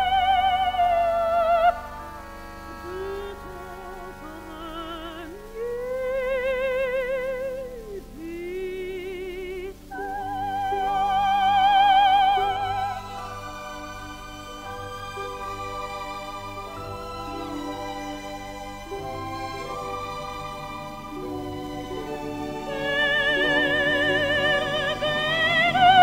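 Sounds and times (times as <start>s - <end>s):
operatic soprano singing: 0.0s - 26.0s
orchestra playing: 0.0s - 26.0s.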